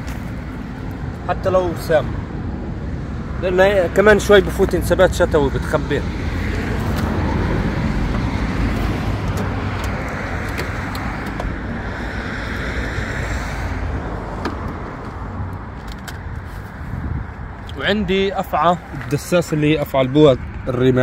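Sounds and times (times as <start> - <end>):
vehicle passing: 0.0 - 21.0.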